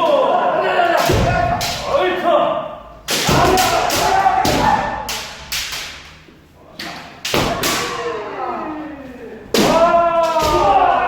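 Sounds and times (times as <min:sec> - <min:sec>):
people shouting: 0:00.0 - 0:05.5, 0:07.4 - 0:11.0.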